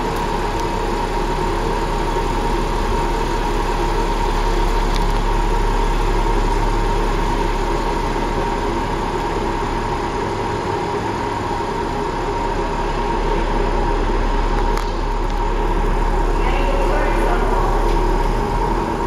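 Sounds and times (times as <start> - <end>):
car engine idling: 0.0 - 19.0
constant hum: 0.0 - 19.0.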